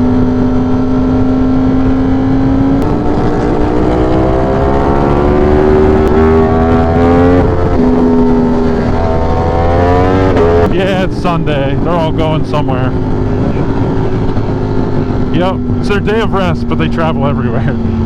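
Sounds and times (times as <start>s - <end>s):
motorcycle engine accelerating: 0.0s - 18.0s
wind rumble: 0.0s - 18.0s.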